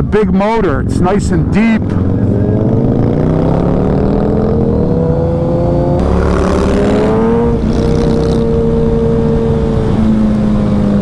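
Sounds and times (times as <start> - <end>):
motorcycle engine accelerating: 0.0 - 11.0
wind noise: 0.8 - 11.0.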